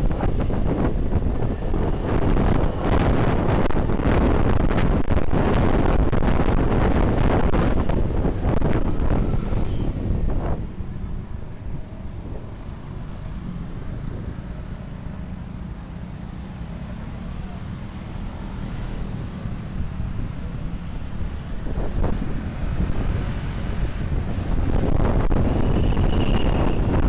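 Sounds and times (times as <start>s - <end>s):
wind on microphone: 0.0s - 15.2s, 18.1s - 27.0s
road noise: 0.0s - 27.0s.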